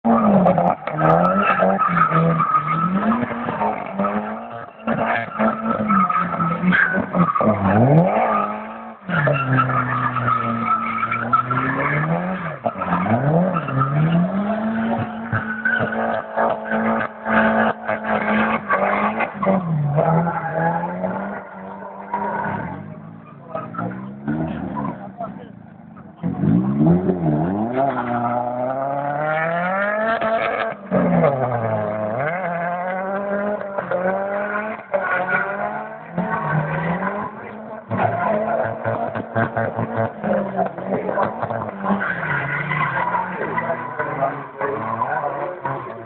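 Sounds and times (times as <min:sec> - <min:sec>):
car engine revving hard: 0:00.1 - 0:46.0.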